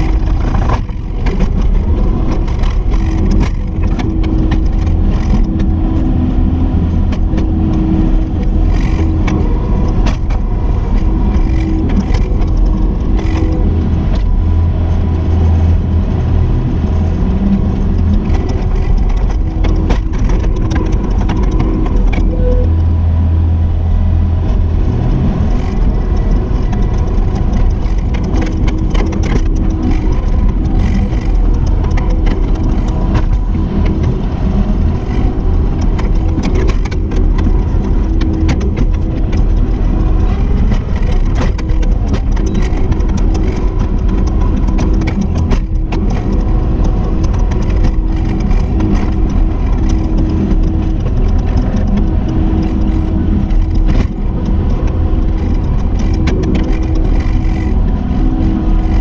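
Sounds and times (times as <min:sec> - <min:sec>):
machine knocks and rattles: 0:00.0 - 0:22.6, 0:24.6 - 0:59.0
diesel engine running fast: 0:00.0 - 0:59.0.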